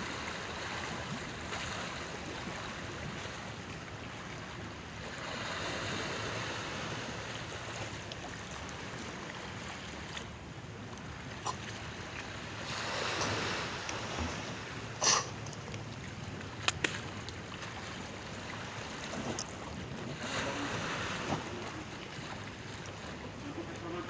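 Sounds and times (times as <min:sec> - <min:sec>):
rushing water: 0:00.0 - 0:24.0
waves splashing against hull: 0:00.0 - 0:24.0.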